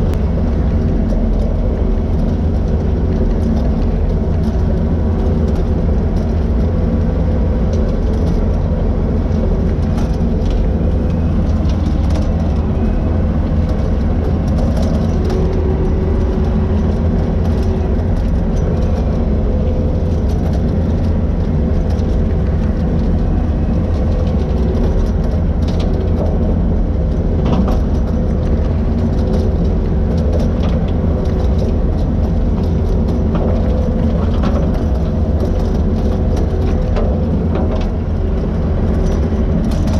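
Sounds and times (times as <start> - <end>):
engine droning under load: 0.0 - 39.9.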